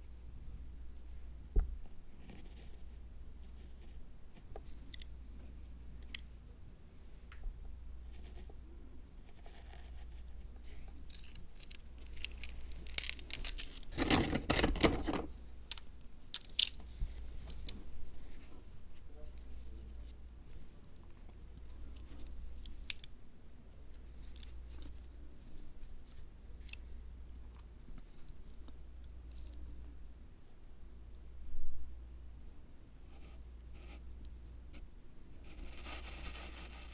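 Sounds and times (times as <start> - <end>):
light clicks and scratches: 1.0 - 6.3, 9.2 - 30.0, 33.1 - 36.9.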